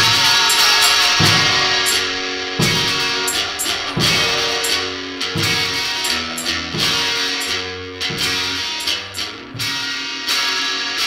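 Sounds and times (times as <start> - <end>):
drum hits: 0.0 - 9.8
electric guitar chords ringing: 0.0 - 11.0.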